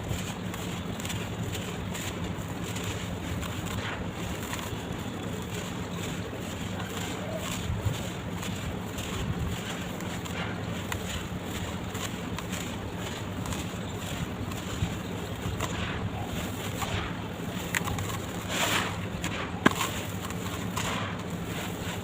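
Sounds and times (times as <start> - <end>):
dirt soaking soft hiss: 0.0 - 22.0
faint crackles: 0.0 - 22.0.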